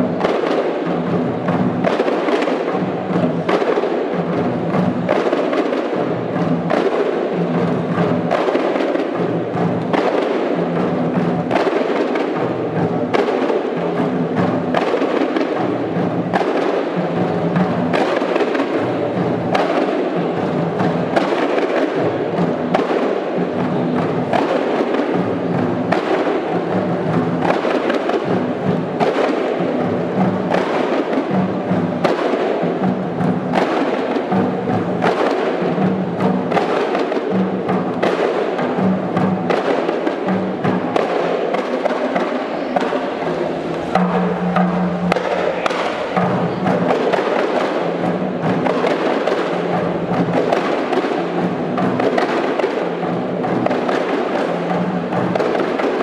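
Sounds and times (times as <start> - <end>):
frame drums ensemble: 0.0 - 56.0.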